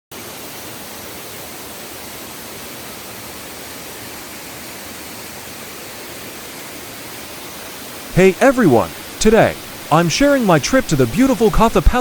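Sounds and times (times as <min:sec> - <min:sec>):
waterfall rushing: 0:00.2 - 0:12.0.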